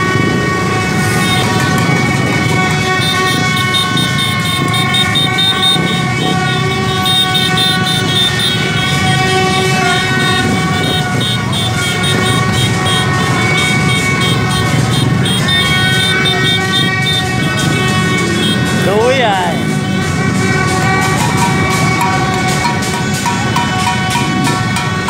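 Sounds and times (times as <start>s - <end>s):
crowd noise: 0.0s - 25.0s
horns and toy trumpets: 0.0s - 25.0s
motorbike engines running: 0.0s - 25.0s.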